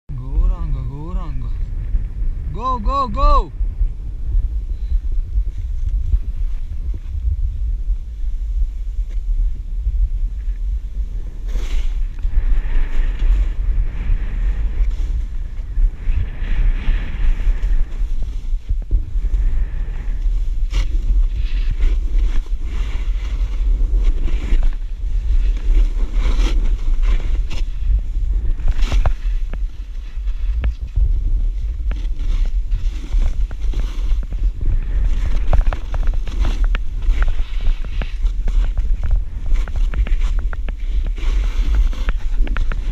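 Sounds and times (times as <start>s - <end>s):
wind rumbling on microphone: 0.0s - 42.9s
snowboard scraping through snow: 4.2s - 42.9s.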